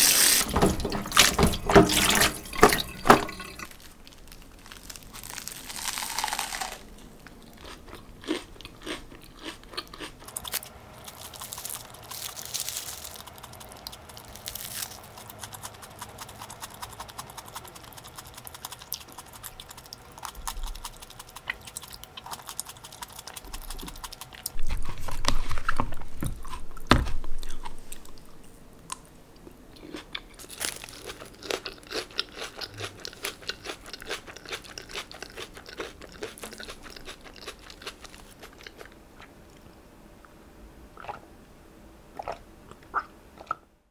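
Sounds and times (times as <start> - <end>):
crunchy chewing of sandwich: 3.6 - 29.0, 29.8 - 39.7.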